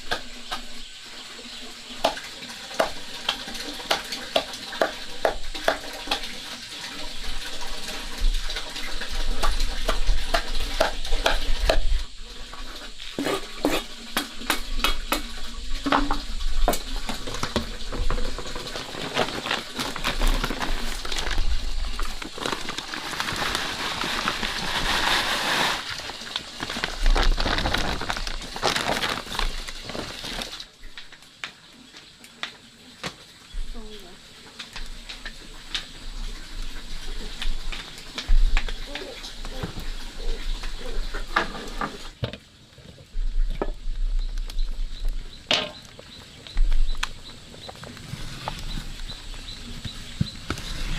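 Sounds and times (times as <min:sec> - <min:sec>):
food sizzling in a pan: 0:00.0 - 0:42.2.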